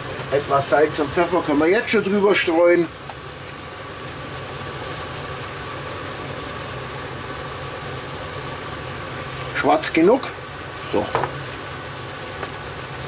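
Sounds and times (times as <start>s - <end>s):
kitchen hum with high tone: 0.0s - 13.0s.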